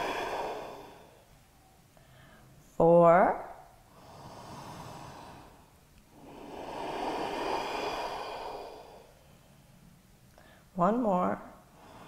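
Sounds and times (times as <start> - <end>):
woman breathing deeply: 0.0 - 2.6, 3.8 - 10.8, 11.6 - 12.0.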